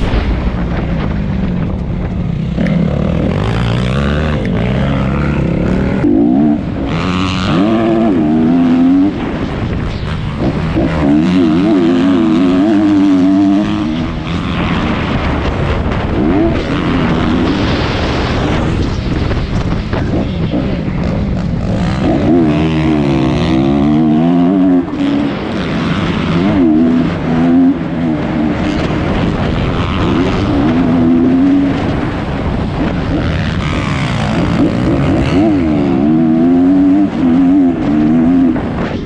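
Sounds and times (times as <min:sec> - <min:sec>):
dirt bike engine revving: 0:01.4 - 0:39.0.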